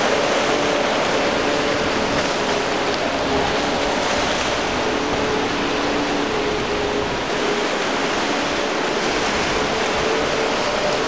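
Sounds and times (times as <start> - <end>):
faint outboard motor drone: 0.0 - 11.0
surf and choppy water: 0.0 - 11.0.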